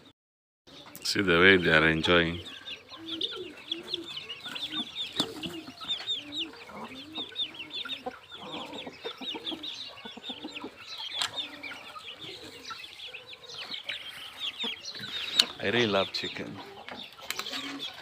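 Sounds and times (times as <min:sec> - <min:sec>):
chickens clucking: 0:00.7 - 0:18.0.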